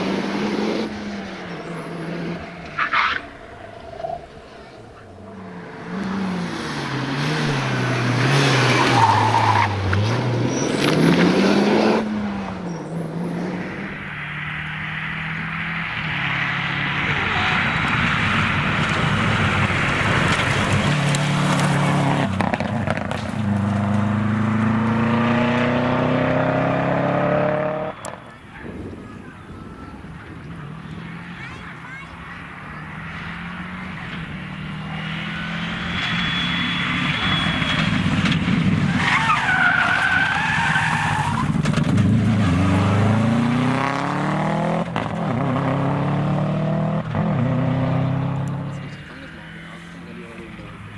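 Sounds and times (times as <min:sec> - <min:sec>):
rally car engine revving: 0:00.0 - 0:28.7, 0:30.2 - 0:50.9
turbocharged engine accelerating: 0:00.0 - 0:28.7, 0:30.1 - 0:50.9.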